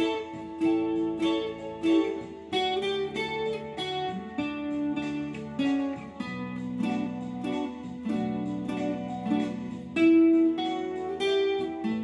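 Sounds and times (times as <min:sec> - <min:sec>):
acoustic guitar melody: 0:00.0 - 0:12.0.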